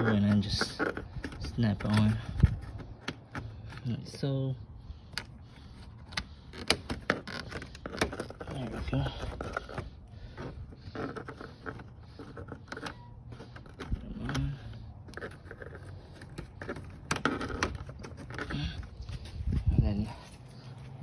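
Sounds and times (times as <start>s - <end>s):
plastic panels rattling and clicking: 0.0s - 4.4s, 5.1s - 19.3s.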